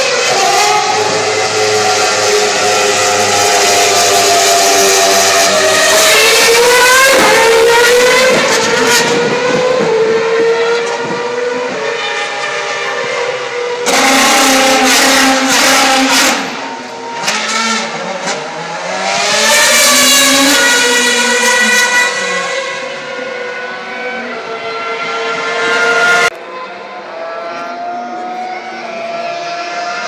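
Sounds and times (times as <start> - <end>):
racing car engines at high revs: 0.0 - 30.0.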